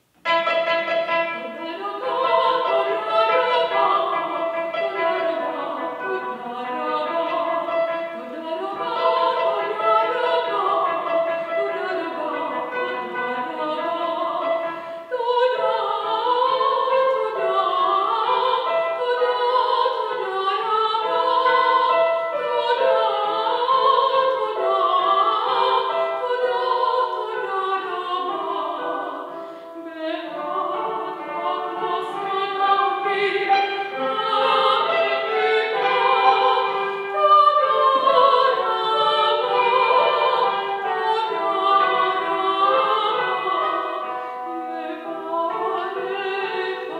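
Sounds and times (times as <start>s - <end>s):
cimbalom playing: 0.2s - 46.9s
soprano singing with vibrato: 0.3s - 46.9s.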